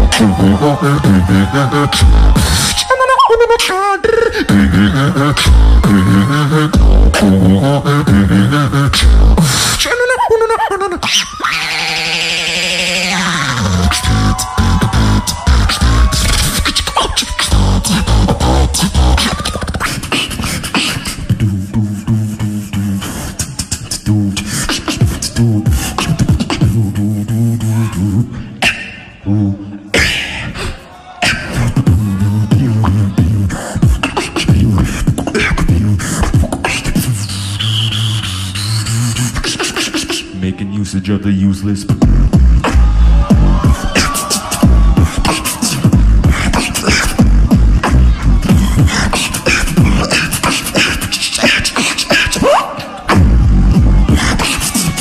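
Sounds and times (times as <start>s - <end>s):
person beatboxing: 0.0s - 55.0s.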